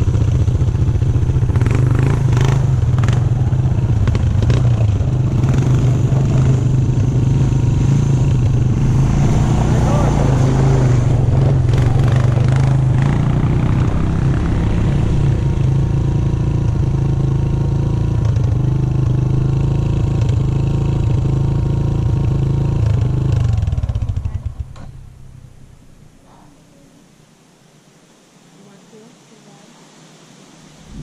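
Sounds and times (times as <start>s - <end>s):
dirt bike engine idling: 0.0s - 26.8s.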